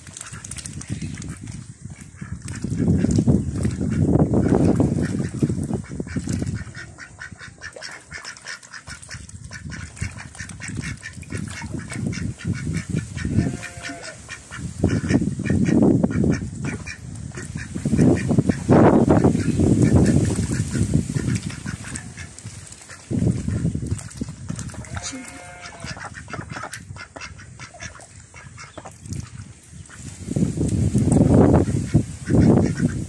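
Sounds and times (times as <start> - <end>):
ducks dabbling in water: 0.0 - 33.0
ducks quacking: 1.2 - 23.8, 24.7 - 30.0, 31.5 - 33.0.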